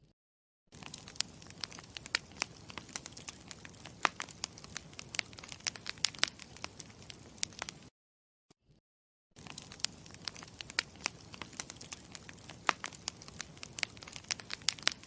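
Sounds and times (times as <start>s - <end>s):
campfire crackling: 0.8s - 7.9s, 9.4s - 15.0s.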